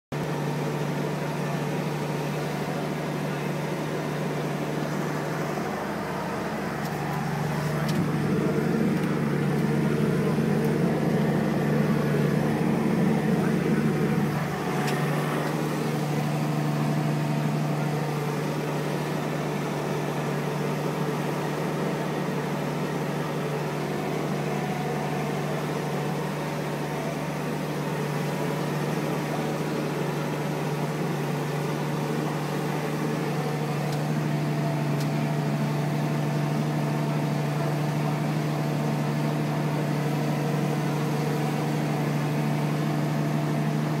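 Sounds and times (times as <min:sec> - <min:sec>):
tractor diesel engine droning: 0:00.1 - 0:44.0.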